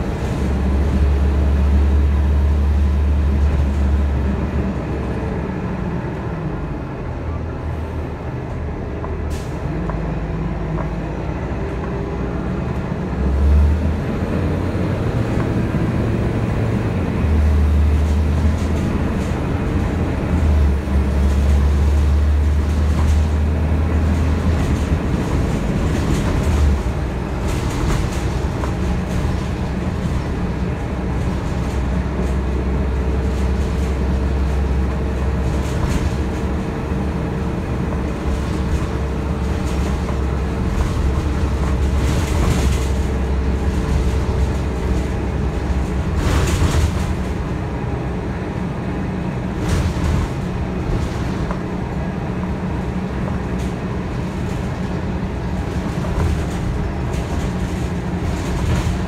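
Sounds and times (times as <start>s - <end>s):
bus engine rumble: 0.0s - 59.0s
road noise: 0.0s - 59.0s.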